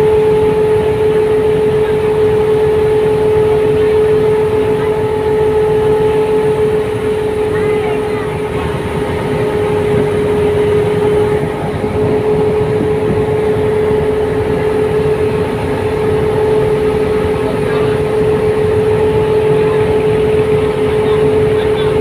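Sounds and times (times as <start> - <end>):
boat engine droning: 0.0 - 22.0
rushing wind and water: 0.0 - 22.0.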